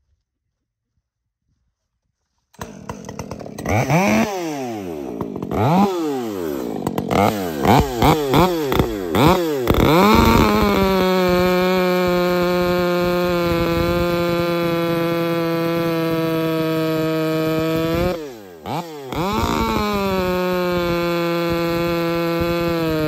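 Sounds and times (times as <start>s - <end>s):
chainsaw revving: 2.6s - 23.0s.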